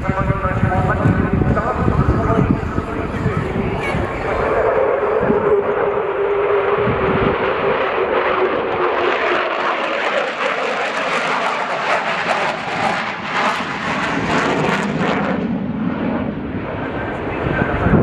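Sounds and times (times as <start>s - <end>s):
jet engine crackling roar: 0.0s - 18.0s
jet engine whine: 0.0s - 18.0s.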